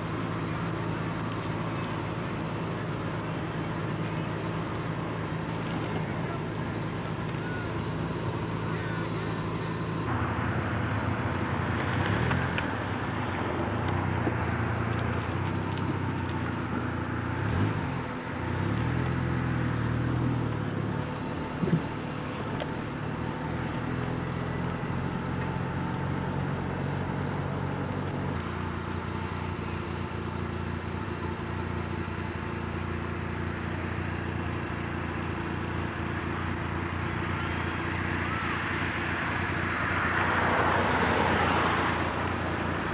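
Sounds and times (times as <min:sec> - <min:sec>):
car engine running: 0:00.0 - 0:42.9
road noise: 0:00.0 - 0:42.9.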